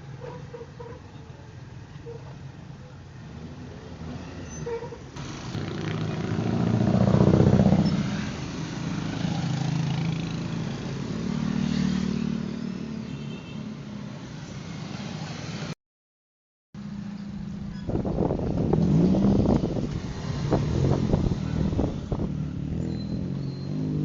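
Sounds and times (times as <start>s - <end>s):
passing vehicle engines: 1.2s - 15.8s, 16.8s - 24.0s.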